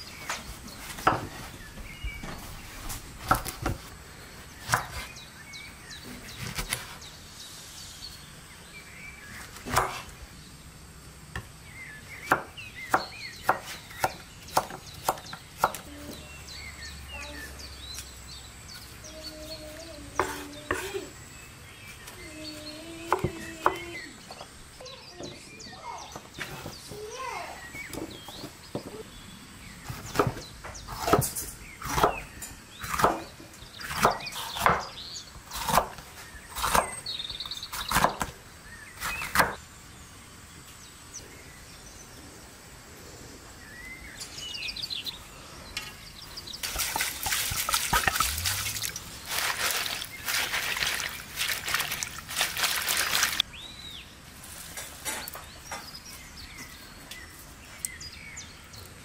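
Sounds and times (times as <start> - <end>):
birds chirping faintly: 0.0 - 59.0.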